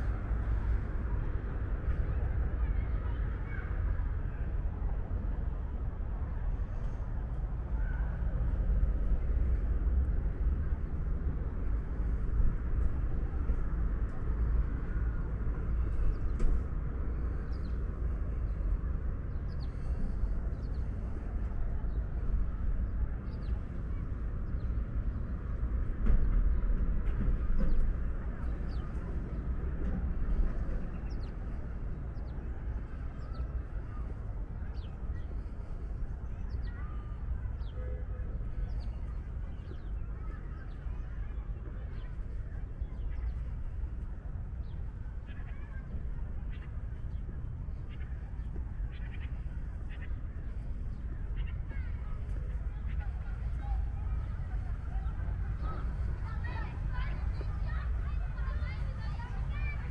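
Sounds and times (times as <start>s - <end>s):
low city rumble: 0.0s - 59.9s.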